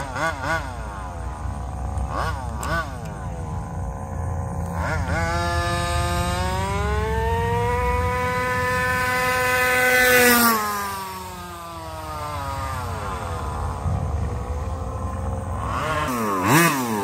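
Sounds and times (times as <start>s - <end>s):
small two-stroke engine buzzing: 0.0s - 17.0s.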